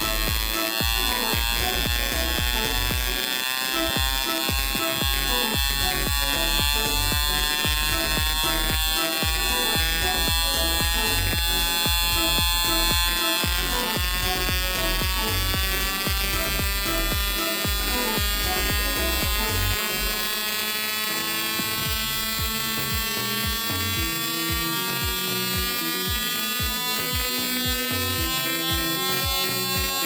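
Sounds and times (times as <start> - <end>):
electrical buzz: 0.0 - 30.0.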